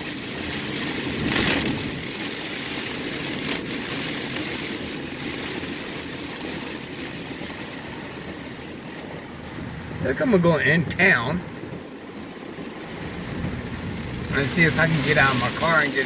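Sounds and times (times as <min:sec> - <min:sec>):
rain and wind on car roof: 0:00.0 - 0:16.0.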